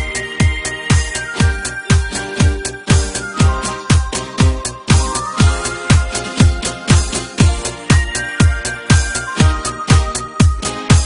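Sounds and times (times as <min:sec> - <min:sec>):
disco dance music: 0:00.0 - 0:11.0
kick drum: 0:00.0 - 0:11.0.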